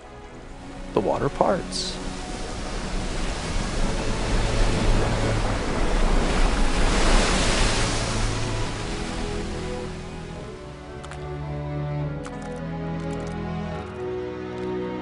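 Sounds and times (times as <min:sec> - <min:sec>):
river water rushing: 0:00.0 - 0:12.2.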